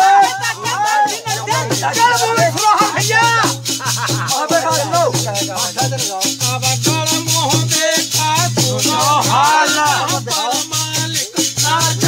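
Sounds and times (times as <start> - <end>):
men singing a folk song: 0.0 - 12.0
rattling percussion: 0.0 - 12.0.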